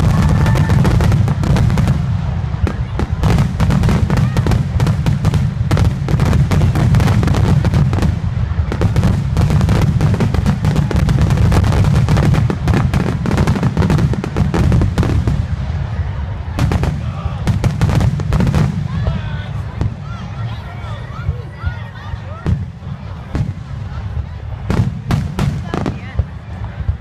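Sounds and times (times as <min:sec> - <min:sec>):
deep fireworks booms: 0:00.0 - 0:27.0
fireworks crackling bangs: 0:00.0 - 0:27.0.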